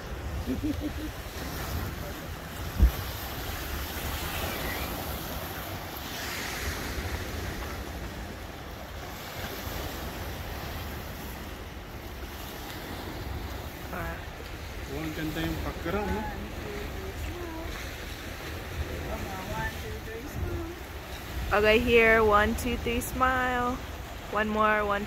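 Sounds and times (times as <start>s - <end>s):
lake waves splashing on rocks: 0.0s - 22.2s, 23.2s - 24.8s
wind buffeting microphone: 0.0s - 24.3s.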